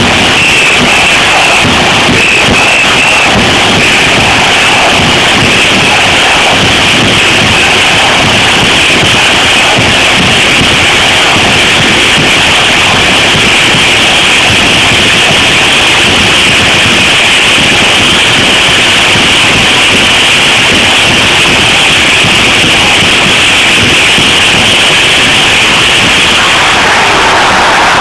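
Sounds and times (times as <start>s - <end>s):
stadium crowd roar: 0.0s - 28.0s.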